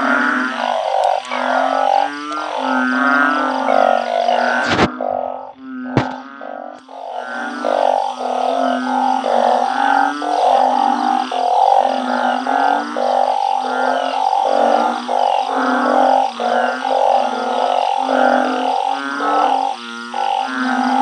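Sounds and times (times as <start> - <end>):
frogs calling: 0.0 - 21.0.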